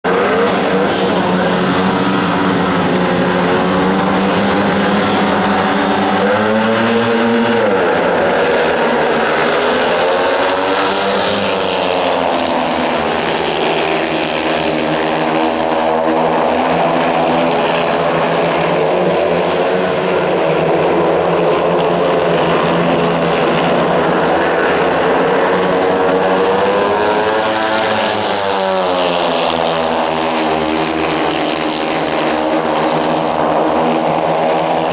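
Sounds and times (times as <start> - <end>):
racing motorcycle engines revving: 0.0 - 34.9.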